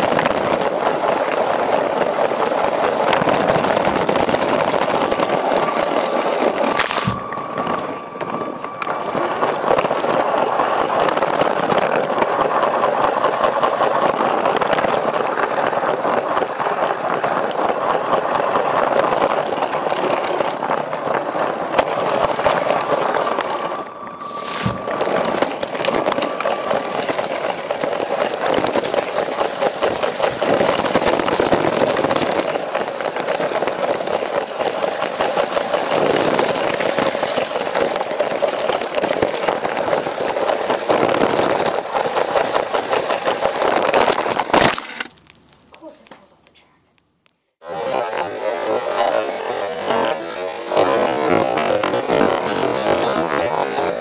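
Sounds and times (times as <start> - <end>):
toy train motor whirring: 0.0 - 45.1, 47.6 - 54.0
plastic wheels clattering on track: 0.0 - 46.2, 47.6 - 54.0.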